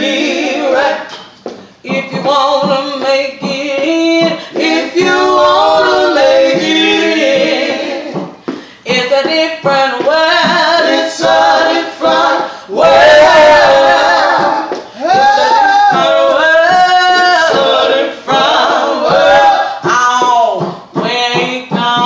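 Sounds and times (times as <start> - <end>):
vocal trio singing in harmony: 0.0 - 22.0.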